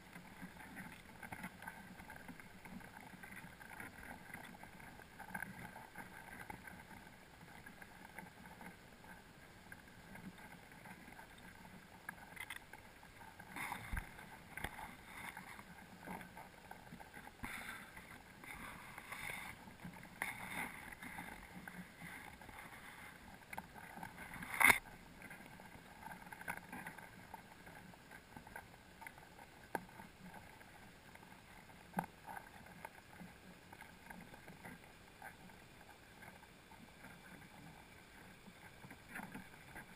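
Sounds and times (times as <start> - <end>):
clicks and knocks underwater: 0.0 - 39.9
faint underwater hiss: 0.0 - 39.9.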